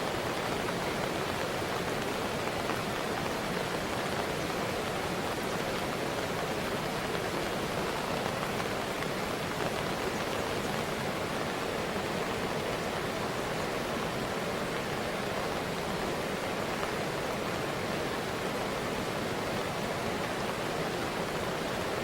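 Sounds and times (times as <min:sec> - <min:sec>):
fast-flowing river water: 0:00.0 - 0:22.0.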